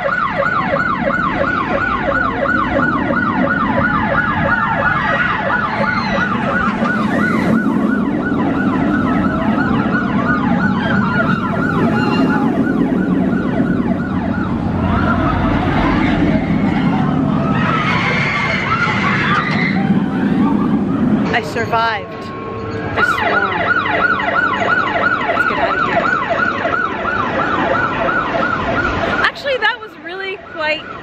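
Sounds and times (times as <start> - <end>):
electronic yelping siren: 0.0 - 31.0
low rumble: 0.6 - 29.2.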